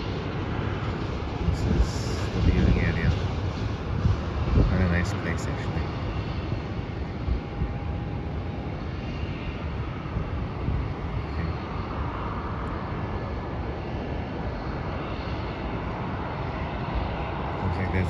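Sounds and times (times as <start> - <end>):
distant jet engine rumble: 0.0 - 18.0.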